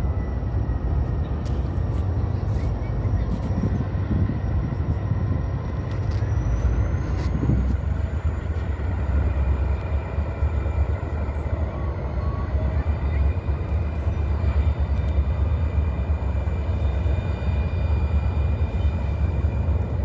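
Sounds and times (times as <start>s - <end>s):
faint steady tones: 0.0s - 20.0s
locomotive rumble: 0.0s - 20.0s.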